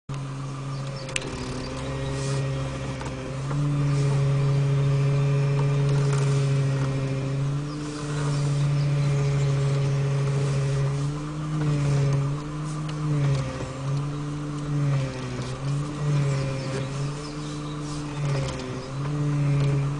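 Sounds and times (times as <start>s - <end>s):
power steering rack humming: 0.1s - 19.9s.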